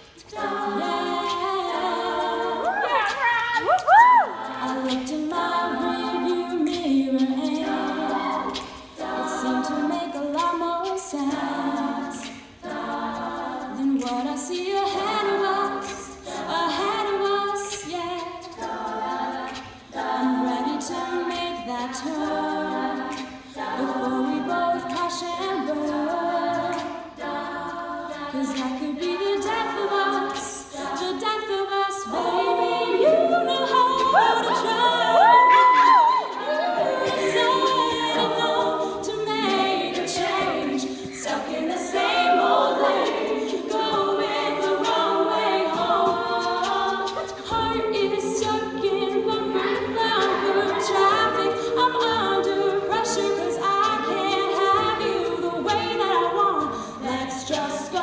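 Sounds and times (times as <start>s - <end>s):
women singing a cappella: 0.0s - 58.0s.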